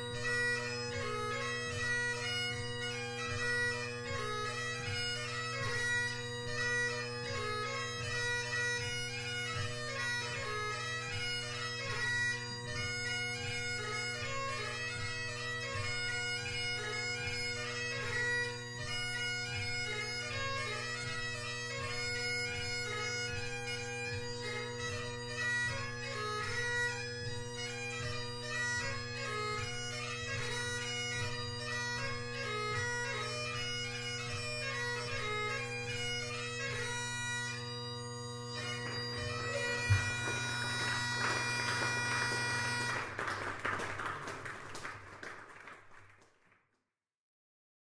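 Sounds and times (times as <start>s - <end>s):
bagpipe drone chord: 0.0s - 43.5s
fast bagpipe chanter melody: 0.0s - 45.5s.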